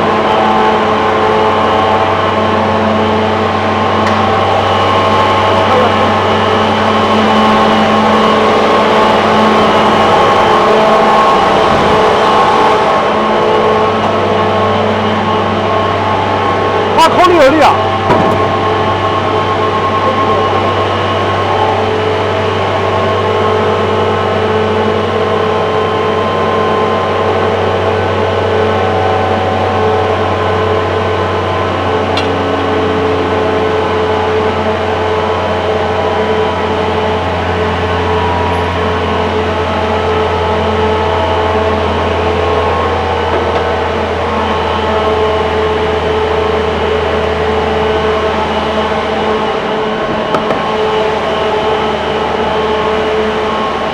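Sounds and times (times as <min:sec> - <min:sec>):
air compressor humming: 0:00.0 - 0:28.5, 0:29.2 - 0:53.9.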